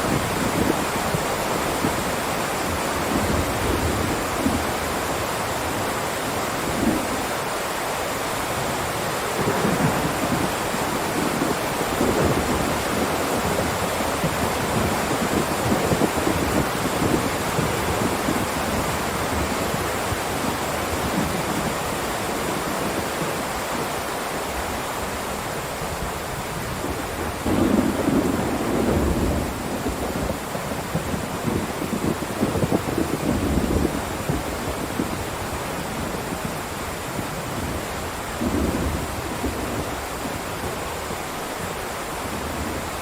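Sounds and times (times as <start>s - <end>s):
heavy rain downpour: 0.0s - 43.0s.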